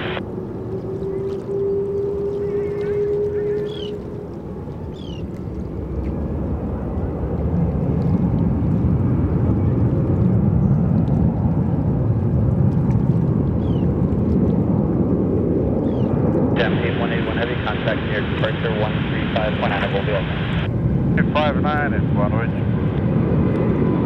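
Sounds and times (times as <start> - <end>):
jet engine rumble: 0.0 - 24.0.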